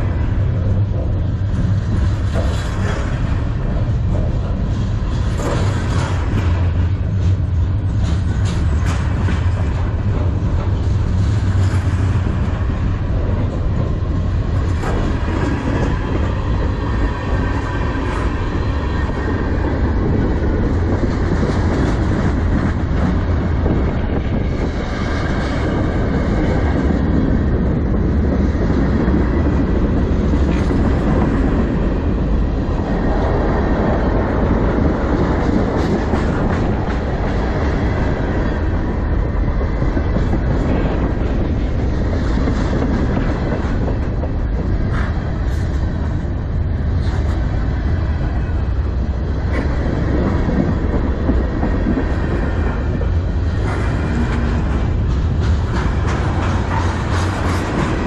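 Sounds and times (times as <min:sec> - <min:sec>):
steel wheels rumbling on rail: 0:00.0 - 0:58.0
wheels clicking over rail joints: 0:00.0 - 0:58.0.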